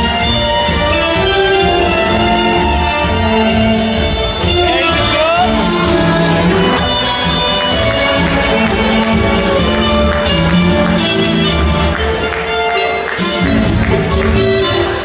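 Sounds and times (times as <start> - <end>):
ballroom tango music: 0.0 - 15.0.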